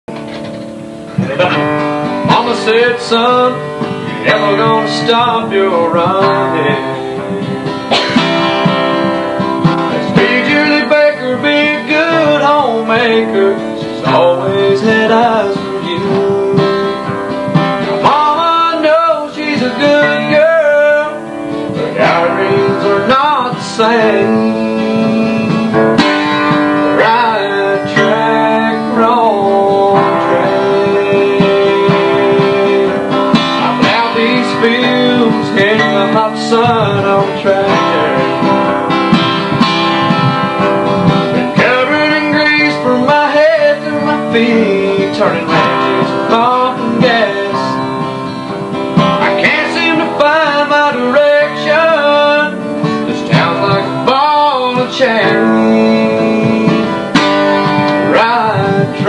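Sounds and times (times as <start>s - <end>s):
acoustic guitar: 0.0s - 59.0s
man singing country song: 1.1s - 59.0s.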